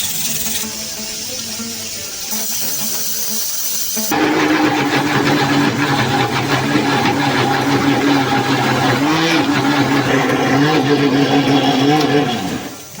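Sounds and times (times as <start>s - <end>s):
small electric motor running: 0.0s - 13.0s.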